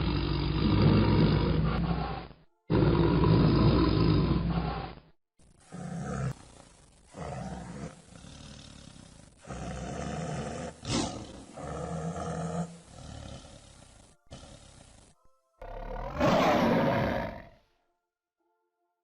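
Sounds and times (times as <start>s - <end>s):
tiger roaring and growling: 0.0s - 5.0s, 5.6s - 17.6s.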